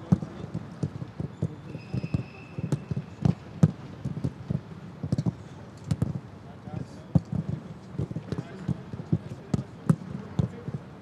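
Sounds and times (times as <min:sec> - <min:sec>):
footballs being kicked and bouncing: 0:00.0 - 0:06.2, 0:07.0 - 0:11.0.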